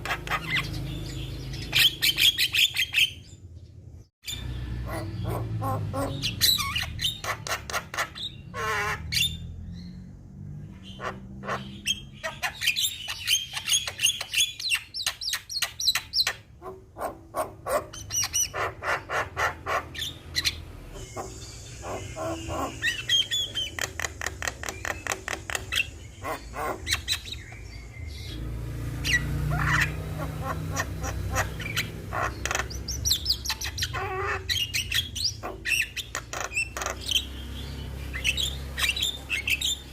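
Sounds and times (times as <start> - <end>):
myna bird singing: 0.0 - 39.9.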